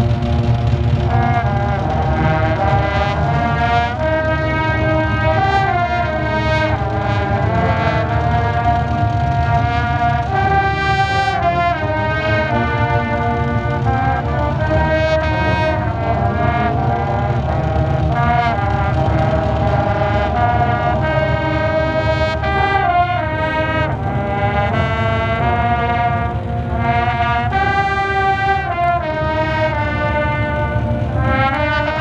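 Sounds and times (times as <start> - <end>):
brass band playing slow chords: 0.0 - 32.0.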